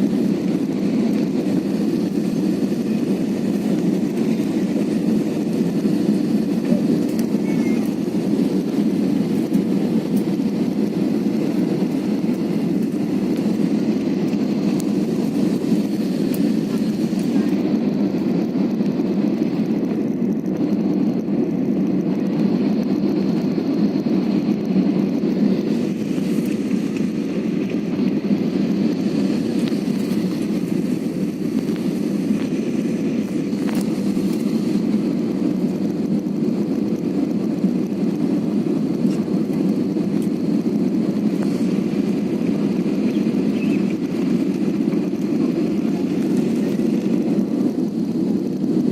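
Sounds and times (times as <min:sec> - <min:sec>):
airliner engines rumbling in cabin: 0:00.0 - 0:48.9.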